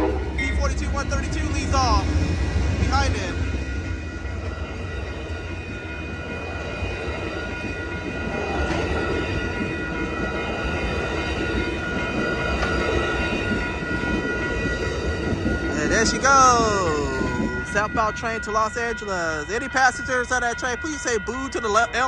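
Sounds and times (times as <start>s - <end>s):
faint high ringing tones: 0.0s - 22.0s
train wheels rumbling on rail: 0.0s - 22.0s.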